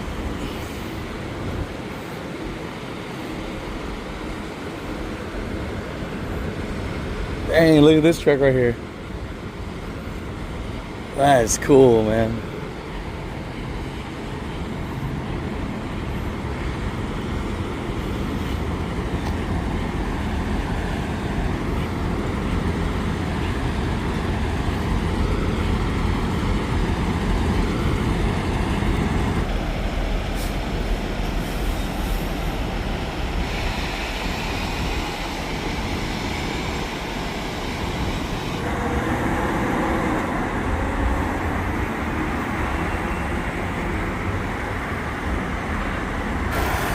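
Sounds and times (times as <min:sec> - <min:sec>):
diesel trucks idling and moving: 0:00.0 - 0:46.9
road traffic: 0:00.0 - 0:46.9.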